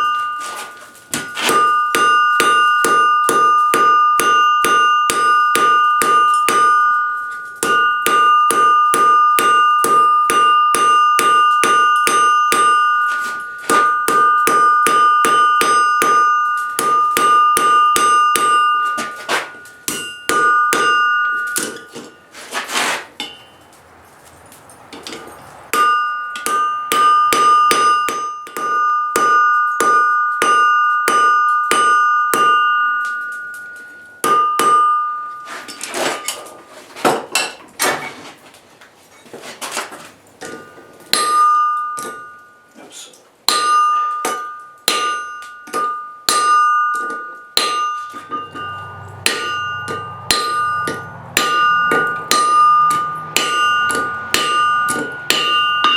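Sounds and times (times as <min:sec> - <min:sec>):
metallic ring from anvil: 0:00.0 - 0:22.4, 0:23.2 - 0:23.7, 0:24.6 - 0:36.6, 0:40.4 - 0:42.8, 0:43.4 - 0:55.9
hammer striking steel on anvil: 0:00.0 - 0:23.7, 0:24.9 - 0:37.9, 0:40.4 - 0:42.7, 0:43.4 - 0:55.9.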